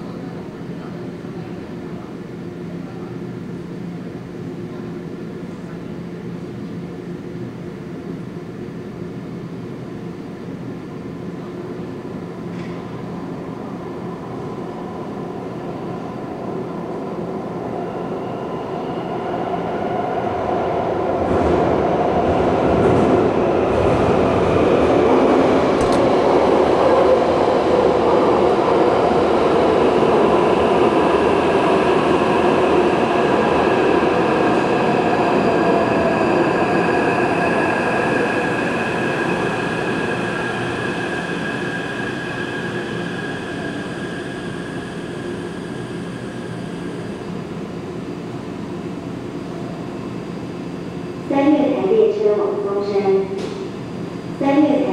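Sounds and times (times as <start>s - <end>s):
train rumble and rail noise: 0.0s - 54.9s.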